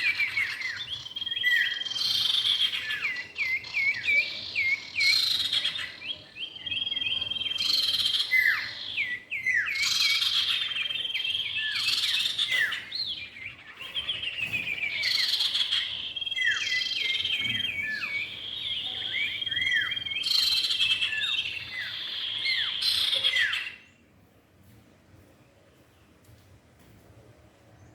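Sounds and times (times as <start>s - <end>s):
bird song whistles and trills: 0.0s - 24.0s.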